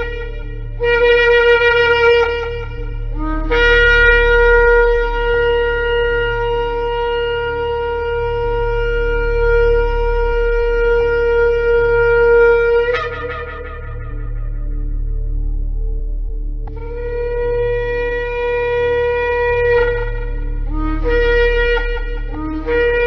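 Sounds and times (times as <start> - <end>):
ram's horn blasts: 0.0 - 15.5, 16.7 - 23.0
steady low hum: 0.0 - 23.0.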